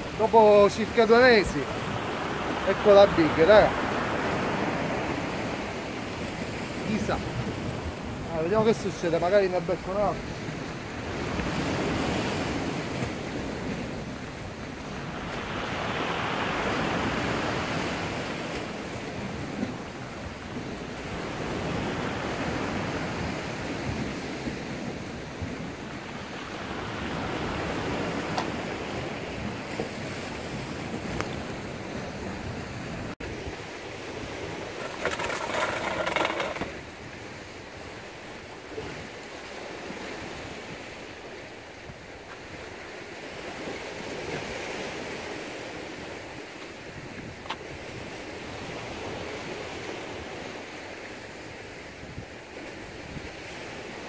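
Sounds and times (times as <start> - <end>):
rough sea washing on rocks: 0.0 - 54.0
wind on microphone: 10.2 - 54.0.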